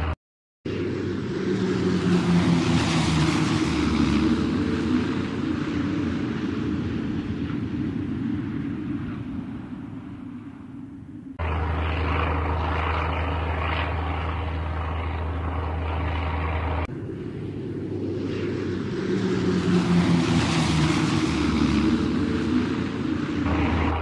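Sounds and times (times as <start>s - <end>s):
plane flying past: 0.0s - 24.0s
propeller plane engine running: 0.0s - 24.0s.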